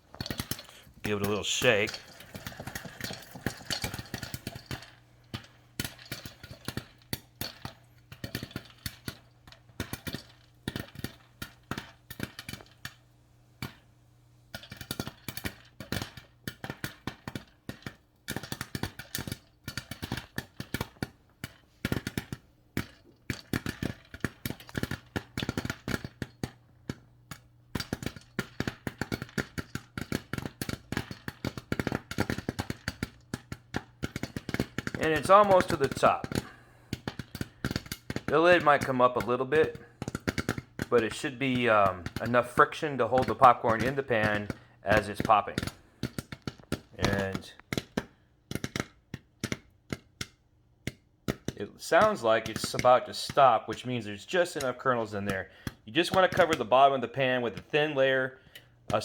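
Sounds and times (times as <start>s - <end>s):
popcorn popping in a saucepan: 0.0s - 59.0s.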